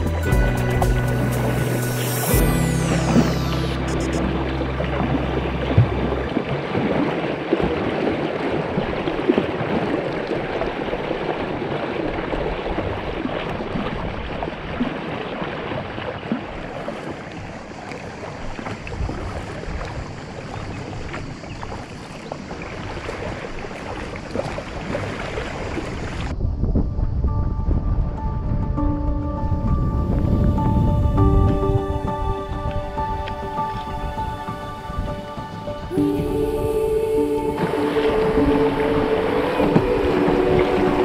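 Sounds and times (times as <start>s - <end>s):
water lapping around kayak: 0.0s - 27.1s, 27.7s - 41.0s.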